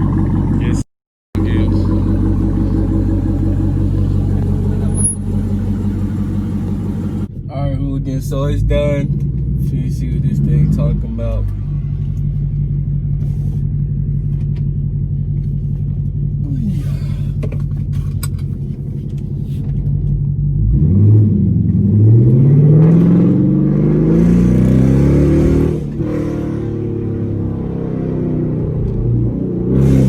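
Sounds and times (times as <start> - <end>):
car engine idling and revving: 0.0 - 0.8, 1.4 - 30.0.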